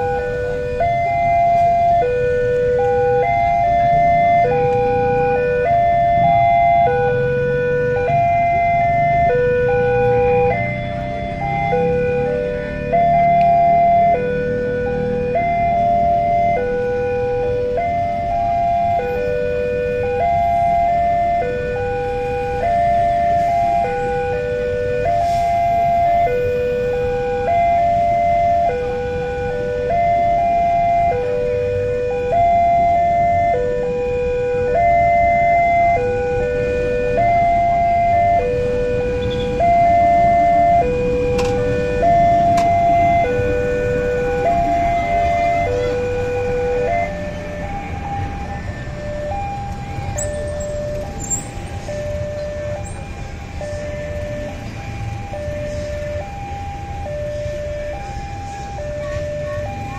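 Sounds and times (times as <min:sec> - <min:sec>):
two-tone crossing alarm: 0:00.0 - 0:59.9.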